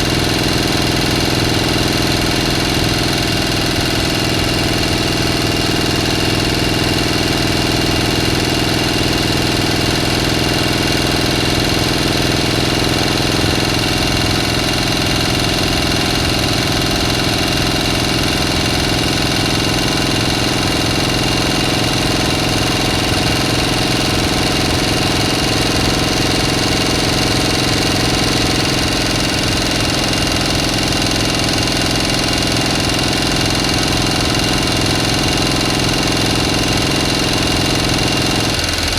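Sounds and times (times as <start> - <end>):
motor humming steadily: 0.0 - 38.9.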